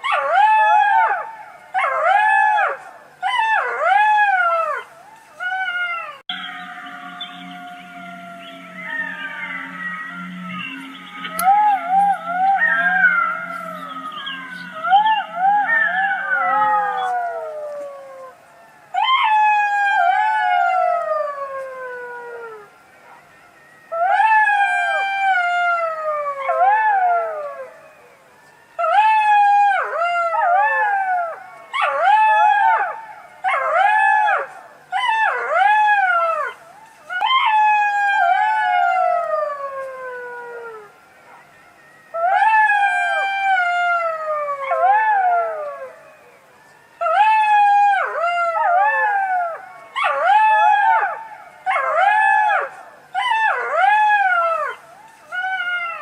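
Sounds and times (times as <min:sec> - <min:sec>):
fox howling: 0:00.0 - 0:28.2, 0:28.8 - 0:56.0.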